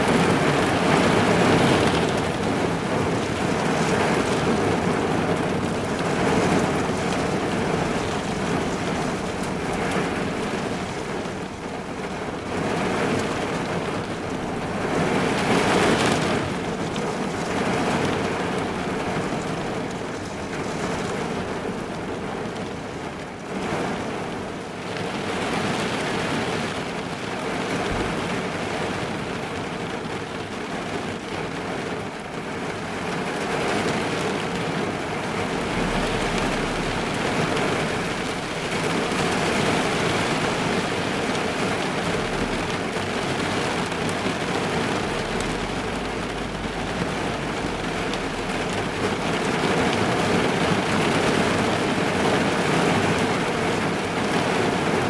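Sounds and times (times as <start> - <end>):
rain on car roof: 0.0 - 55.0.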